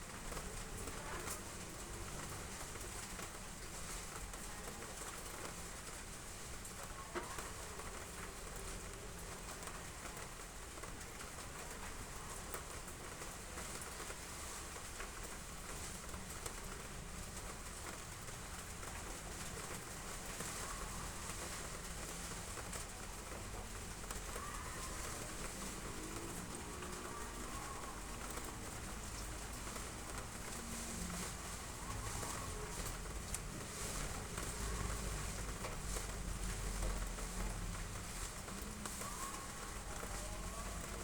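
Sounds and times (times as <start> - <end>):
heavy rain on roof tiles: 0.0 - 41.0.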